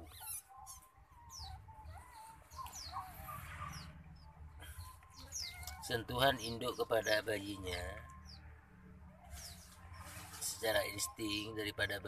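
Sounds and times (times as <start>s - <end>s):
otter pups squeaking: 0.0s - 8.4s, 9.1s - 11.6s.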